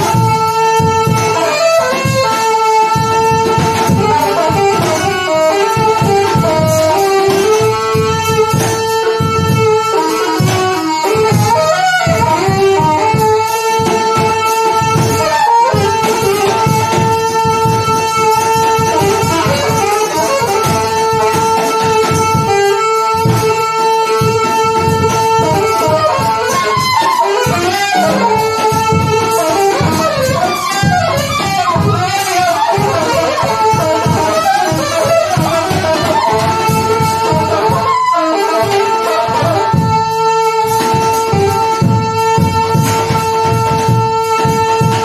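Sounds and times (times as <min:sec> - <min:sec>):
busy drumming: 0:00.0 - 0:45.0
saxophone improvising: 0:00.0 - 0:45.0.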